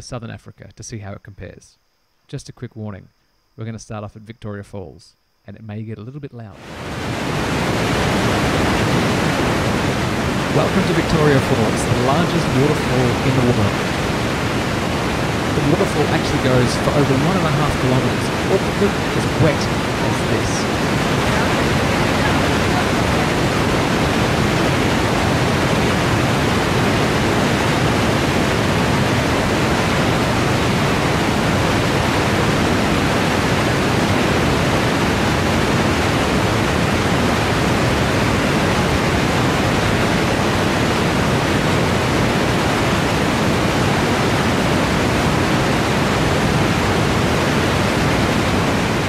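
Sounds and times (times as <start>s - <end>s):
waterfall thundering: 6.6s - 49.0s.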